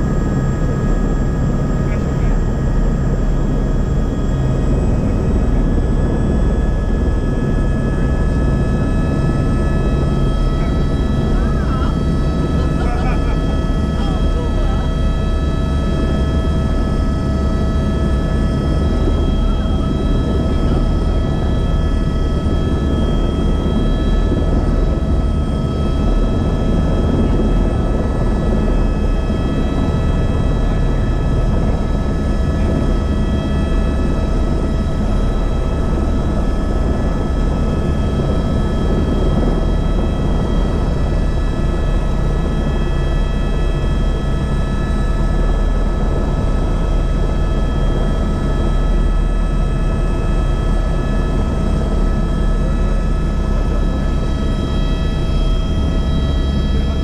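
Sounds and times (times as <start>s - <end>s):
constant whining tones: 0.0s - 57.0s
helicopter rotor and engine noise: 0.0s - 57.0s.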